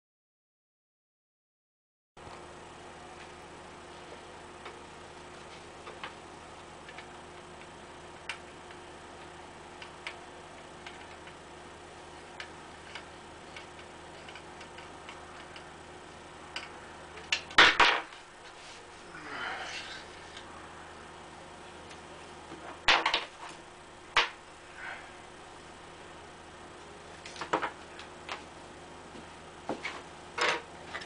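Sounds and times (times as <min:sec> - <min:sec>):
faint hum: 0:02.2 - 0:31.0.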